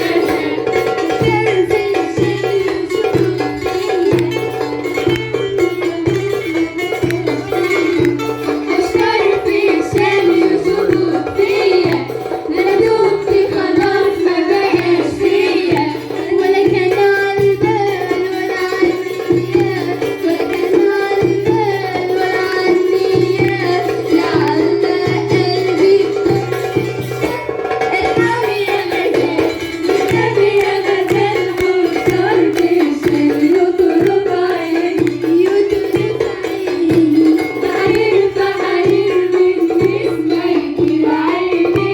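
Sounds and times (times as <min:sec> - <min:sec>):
percussion rhythm: 0:00.0 - 0:41.9
plucked lyre: 0:00.0 - 0:41.9
woman singing: 0:00.0 - 0:41.9.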